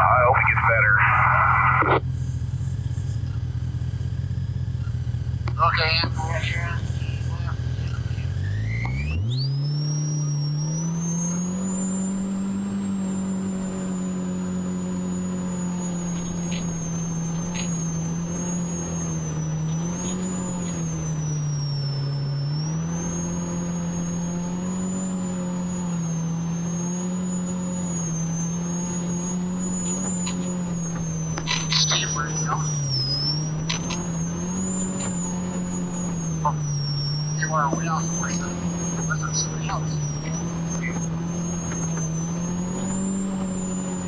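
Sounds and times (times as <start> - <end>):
vehicle engine cruising: 0.0 - 44.0
thin high whine: 5.6 - 44.0.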